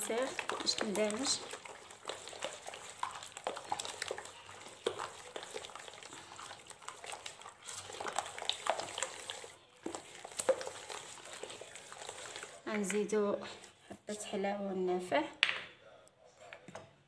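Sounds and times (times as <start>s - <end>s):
hand mixing wet batter: 0.0s - 14.7s.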